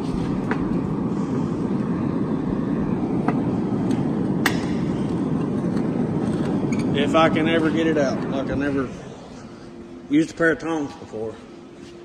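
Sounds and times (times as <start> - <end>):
forge burner rushing: 0.0 - 12.0.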